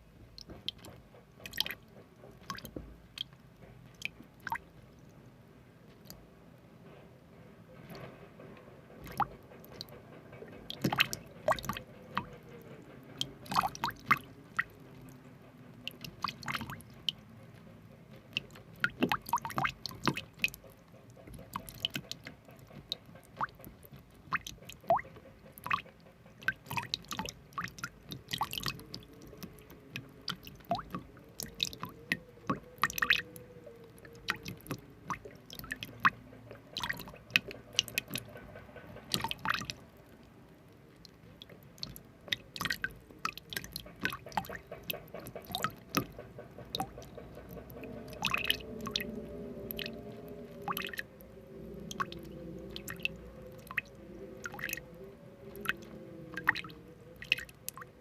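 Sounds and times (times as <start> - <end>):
faint steady background: 0.0 - 58.0
wet clicks and squishes: 0.4 - 4.8, 9.0 - 12.4, 13.1 - 15.1, 15.7 - 58.0.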